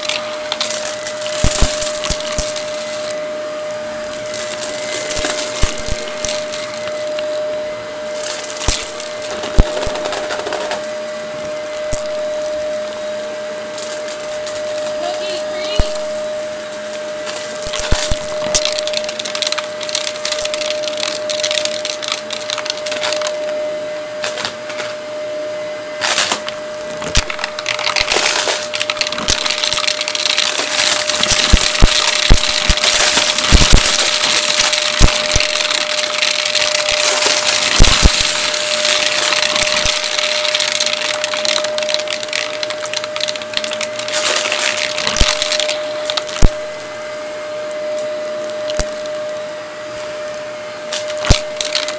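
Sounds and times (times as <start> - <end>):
debris clattering in vacuum: 0.0 - 25.0, 25.8 - 49.5, 50.8 - 51.9
vacuum cleaner motor whine: 0.0 - 51.9.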